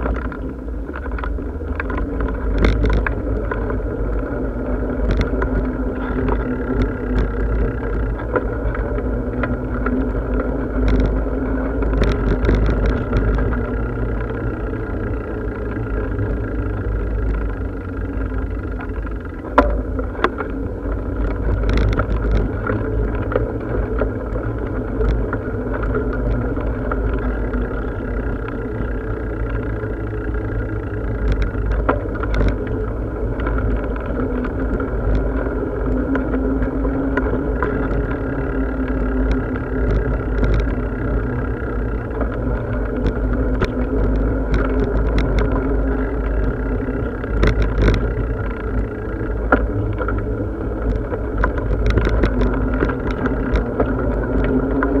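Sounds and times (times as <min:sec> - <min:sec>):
bicycle tyres rolling on path: 0:00.0 - 0:55.0
bike clicks and rattles: 0:00.0 - 0:55.0.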